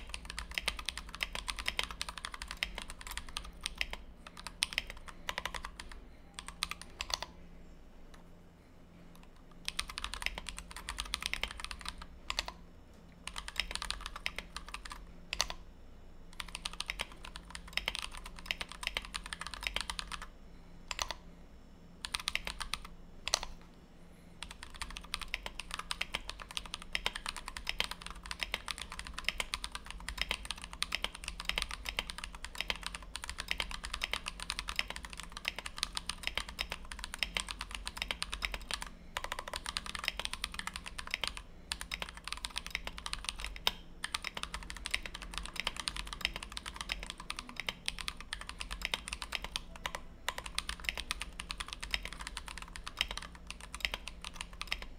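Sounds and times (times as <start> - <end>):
mechanical keyboard typing: 0.0 - 7.4, 9.2 - 12.6, 13.2 - 15.6, 16.3 - 20.3, 20.9 - 21.2, 22.0 - 23.6, 24.4 - 54.9.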